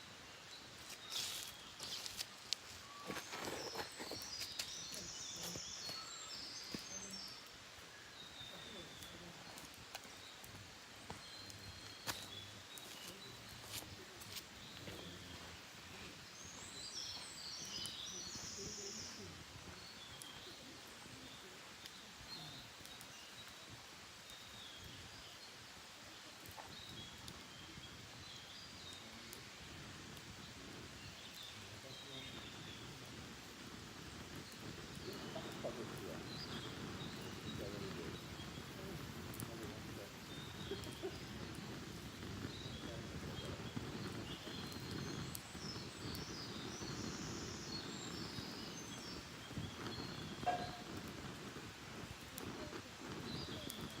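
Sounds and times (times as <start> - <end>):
outdoor ambience hiss: 0.0 - 54.0
songbirds chirping: 0.0 - 54.0.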